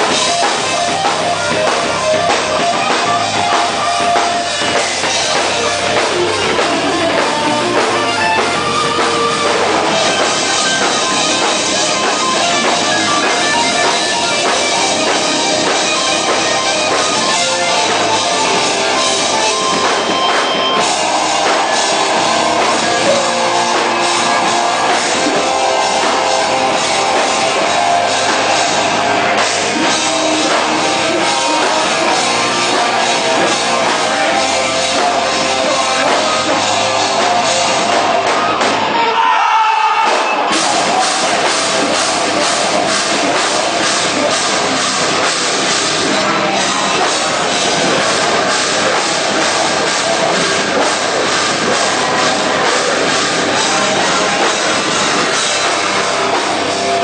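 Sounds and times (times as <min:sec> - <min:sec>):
distorted guitars: 0:00.0 - 0:57.0
drum kit pounding: 0:00.0 - 0:57.0.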